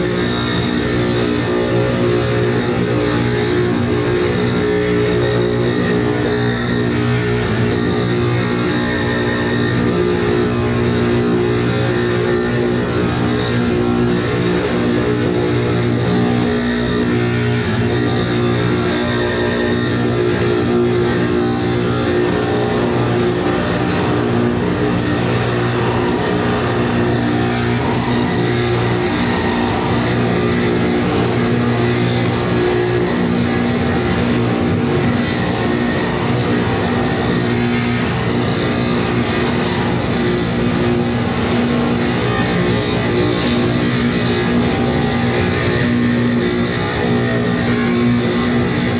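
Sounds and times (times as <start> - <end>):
low droning tones: 0.0 - 48.9
wall of distorted noise: 0.0 - 48.9.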